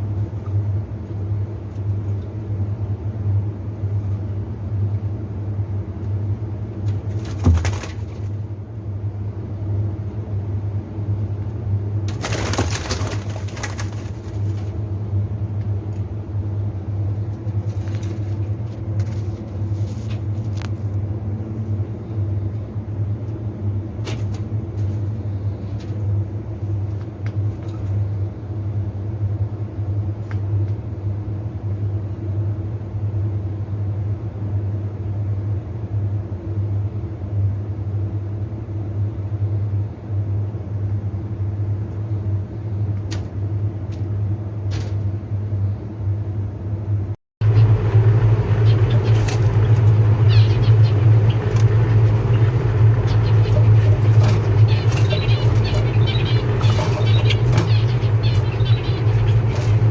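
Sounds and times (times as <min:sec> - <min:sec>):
low rumbling hum: 0:00.0 - 0:37.0, 0:37.6 - 0:59.9.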